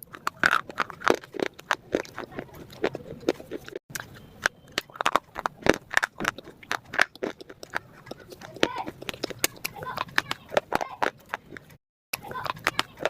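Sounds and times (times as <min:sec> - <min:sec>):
crunchy food being chewed: 0:00.0 - 0:13.0.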